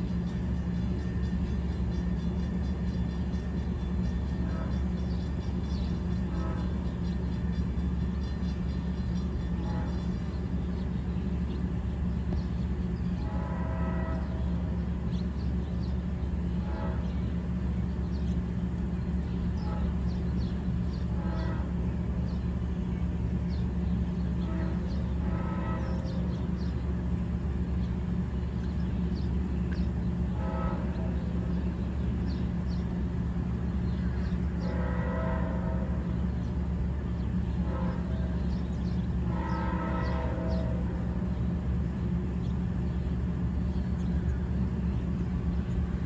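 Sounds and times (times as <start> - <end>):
diesel locomotive idling: 0.0 - 46.0
distant train horn blasts: 0.0 - 46.0.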